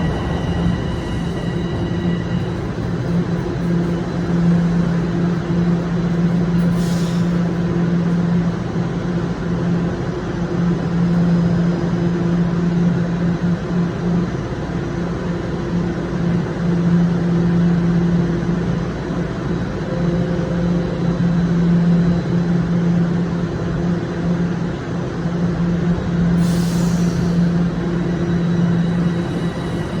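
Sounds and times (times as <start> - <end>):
subway train electric hum: 0.0 - 30.0.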